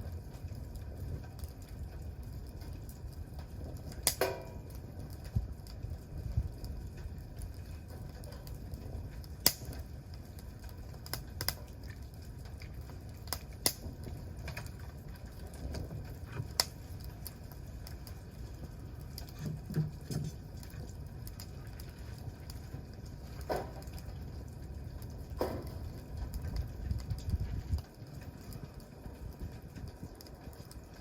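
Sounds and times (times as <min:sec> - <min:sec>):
campfire crackling: 0:00.0 - 0:31.0
low steady rumble: 0:00.0 - 0:31.0.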